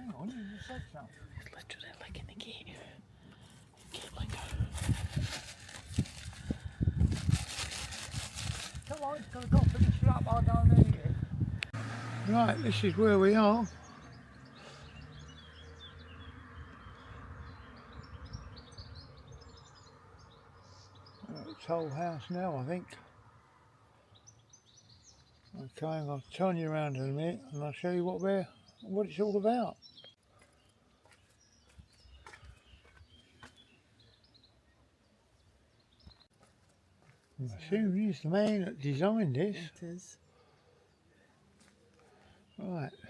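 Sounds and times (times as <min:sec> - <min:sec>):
faint birds chirping: 0:00.0 - 0:09.5, 0:11.2 - 0:43.0.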